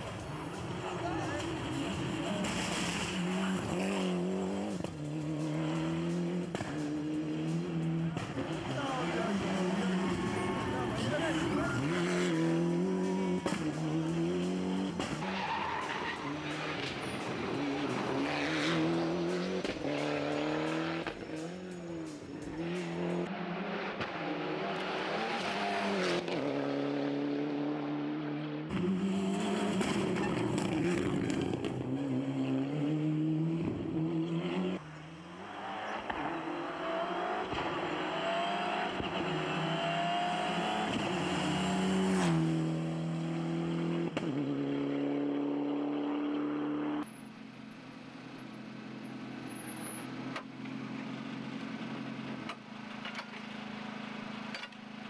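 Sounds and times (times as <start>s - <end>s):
rally car engine revving: 0.0s - 47.1s.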